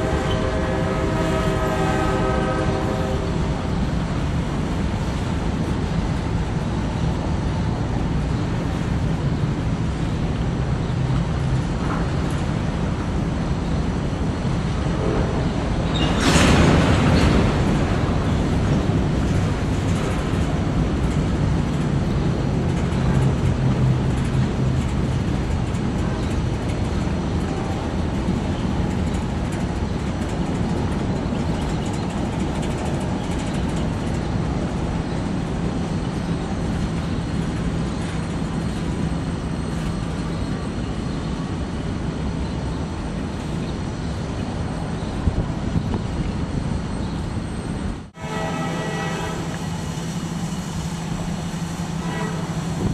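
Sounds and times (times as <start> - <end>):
freight train rumbling and rattling: 0.0 - 52.9.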